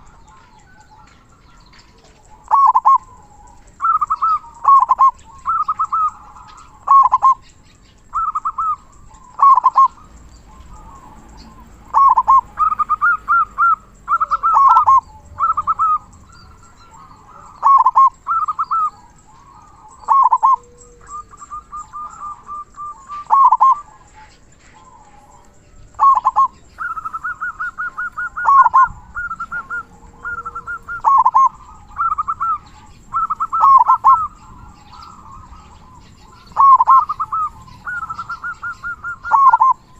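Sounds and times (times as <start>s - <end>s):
dove singing: 0.0s - 39.9s.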